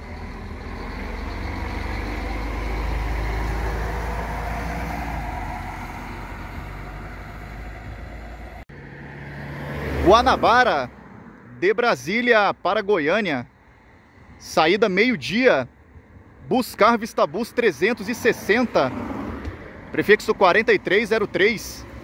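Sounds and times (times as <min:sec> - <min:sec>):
coach diesel engine passing: 0:00.0 - 0:22.0.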